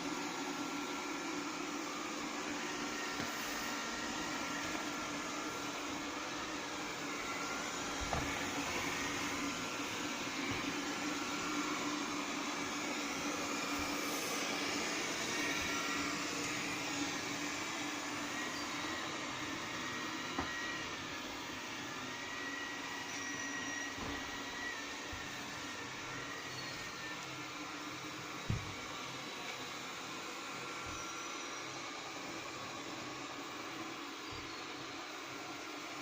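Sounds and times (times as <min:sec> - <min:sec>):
robot vacuum whirring: 0:00.0 - 0:36.0.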